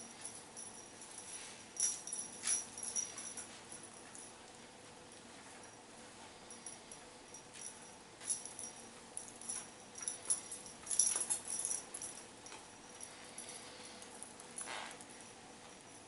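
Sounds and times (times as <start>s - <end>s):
jewellery jingling: 0.0s - 4.4s, 6.4s - 16.0s.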